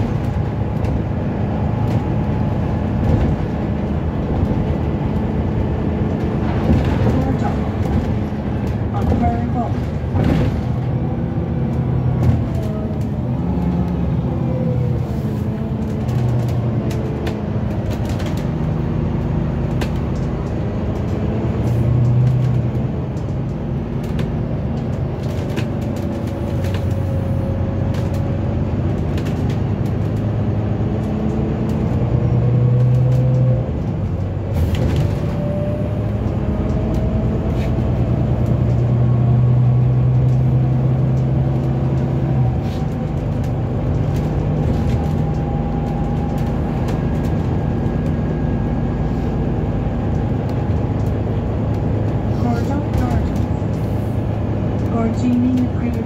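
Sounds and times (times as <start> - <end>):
bus diesel engine hum: 0.0 - 56.0
rattles and clicks from bus body: 0.0 - 56.0.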